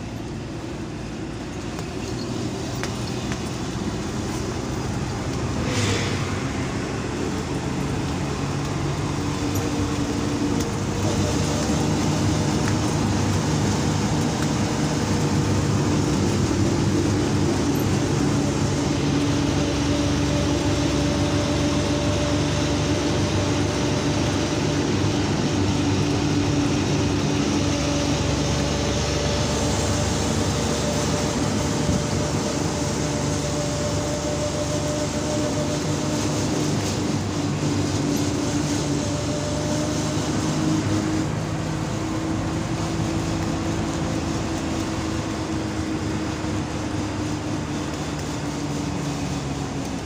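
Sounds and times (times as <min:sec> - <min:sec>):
tyre and road noise: 0:00.0 - 0:50.0
vehicle engine drone: 0:00.0 - 0:50.0.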